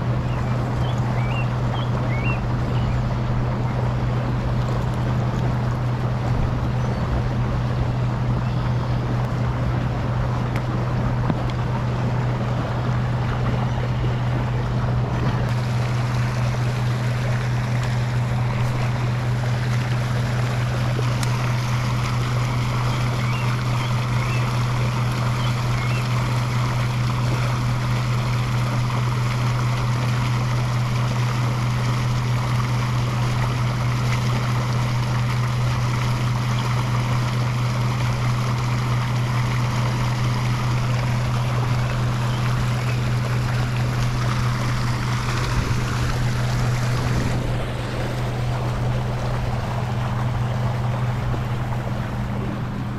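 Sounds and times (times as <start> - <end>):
constant low hum: 0.0 - 52.9
water pouring and churning: 0.0 - 52.9.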